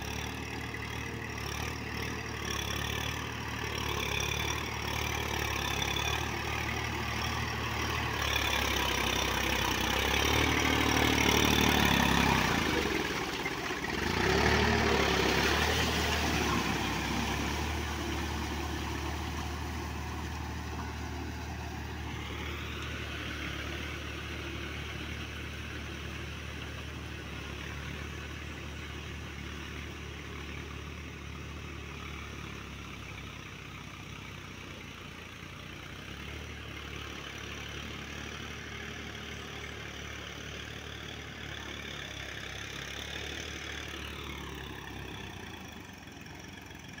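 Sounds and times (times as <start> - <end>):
distant tractor engine under load: 0.0 - 47.0.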